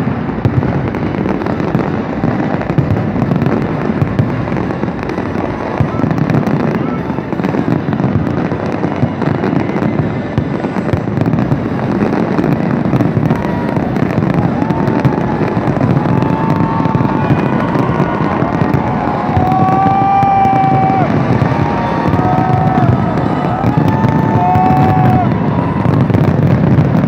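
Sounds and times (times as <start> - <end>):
fireworks crackling and banging: 0.0 - 27.0.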